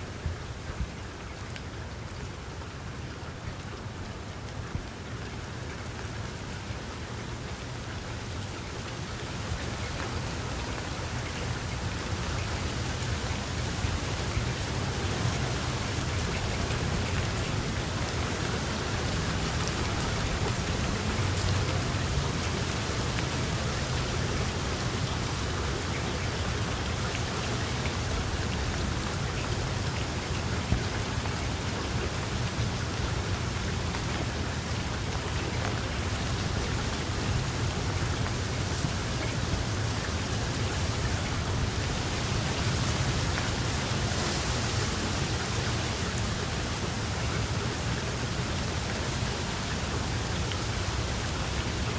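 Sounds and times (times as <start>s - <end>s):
rain pattering: 0.0s - 51.9s.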